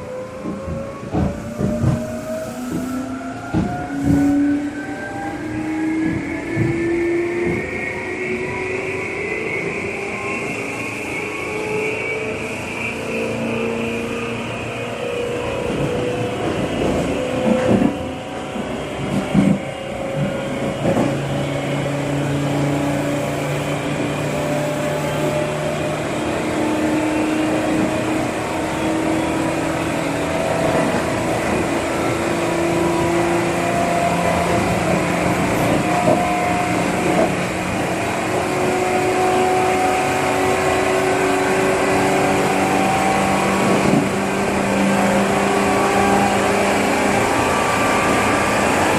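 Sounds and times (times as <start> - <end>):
electric train motor whine: 0.0 - 48.9.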